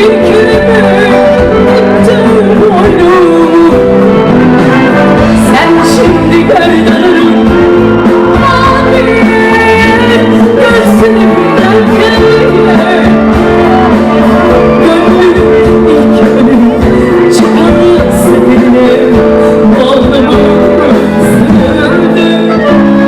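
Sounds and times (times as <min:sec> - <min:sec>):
live band music: 0:00.0 - 0:23.0
person singing: 0:00.0 - 0:23.0.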